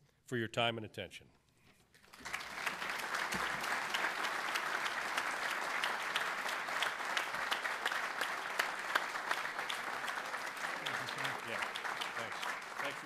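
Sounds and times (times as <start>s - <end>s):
audience applauding: 2.0s - 13.0s.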